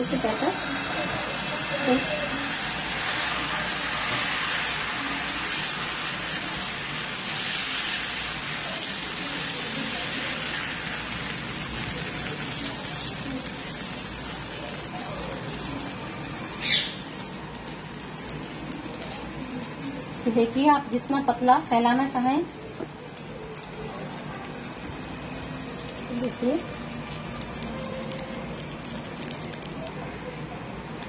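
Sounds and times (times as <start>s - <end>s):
batter sizzling on a pan: 0.0s - 31.0s.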